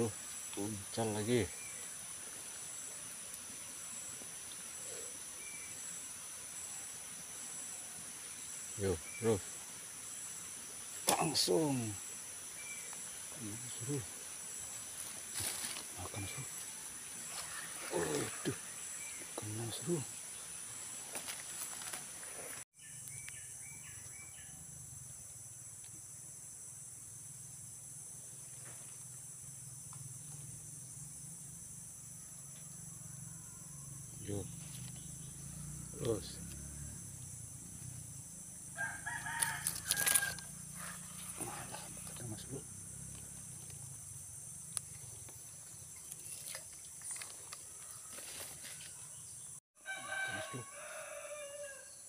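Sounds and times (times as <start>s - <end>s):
crickets shrilling: 0.0s - 52.0s.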